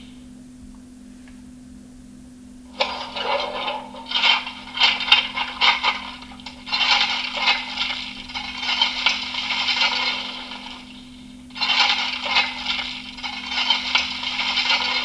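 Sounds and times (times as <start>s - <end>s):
steady low hum: 0.0s - 15.0s
shovel scraping coal: 2.7s - 15.0s.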